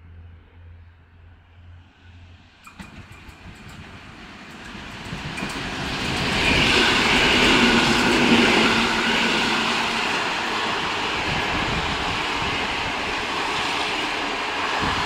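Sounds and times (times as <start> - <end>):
train passing on rails: 0.5 - 15.0.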